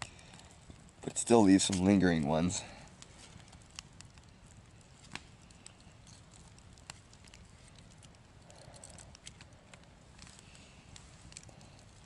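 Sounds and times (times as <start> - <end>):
low steady background noise: 0.0 - 12.0.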